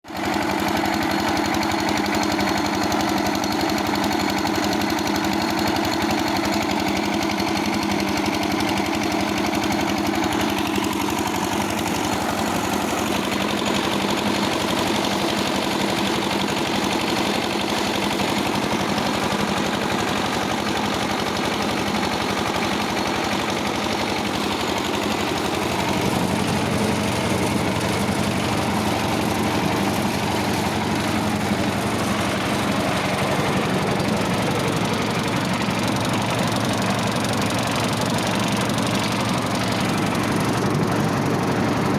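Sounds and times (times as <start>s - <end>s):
washing machine mechanical drone: 5.6s - 41.9s.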